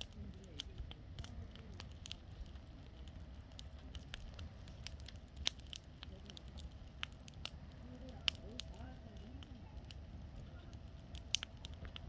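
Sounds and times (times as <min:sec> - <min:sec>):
bonfire crackling and popping: 0:00.0 - 0:12.0
steady low rumble: 0:00.0 - 0:12.0.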